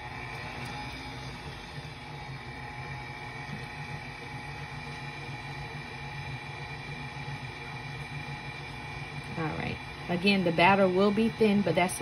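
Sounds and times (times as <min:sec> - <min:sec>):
beater mixing batter: 0:00.0 - 0:12.0
stand mixer motor whine: 0:00.0 - 0:12.0.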